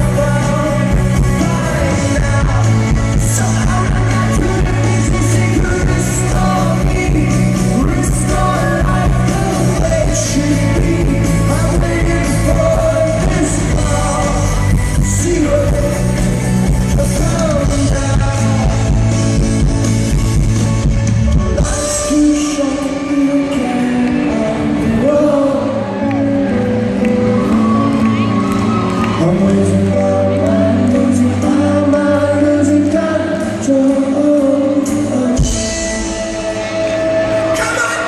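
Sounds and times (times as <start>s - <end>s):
man singing: 0.0s - 19.8s, 21.3s - 28.0s, 29.1s - 38.0s
rock band playing: 0.0s - 38.0s.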